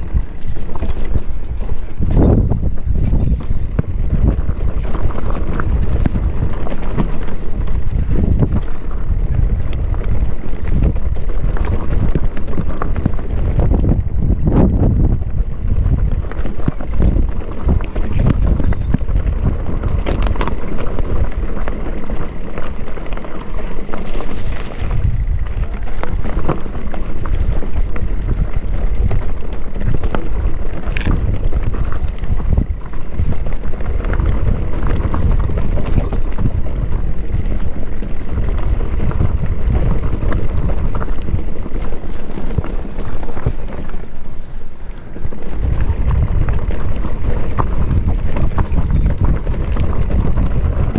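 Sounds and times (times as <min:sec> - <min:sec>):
bike rattles and knocks: 0:00.0 - 0:50.9
mountain bike rumbling on trail: 0:00.0 - 0:50.9
wind buffeting microphone: 0:00.0 - 0:50.9.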